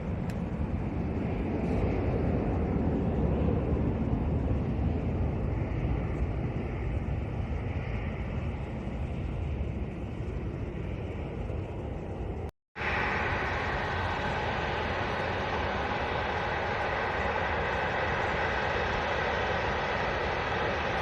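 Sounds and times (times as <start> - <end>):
jet airliner engine rumble: 0.0 - 21.0.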